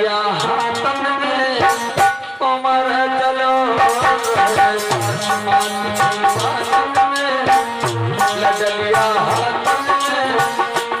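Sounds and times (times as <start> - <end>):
hand drum strokes: 0.4 - 2.3, 3.8 - 11.0.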